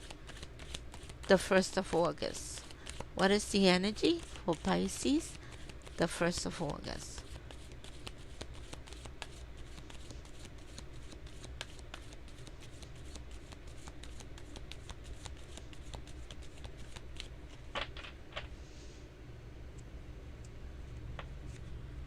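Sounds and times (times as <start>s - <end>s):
cards being shuffled: 0.0s - 18.6s, 21.1s - 21.8s.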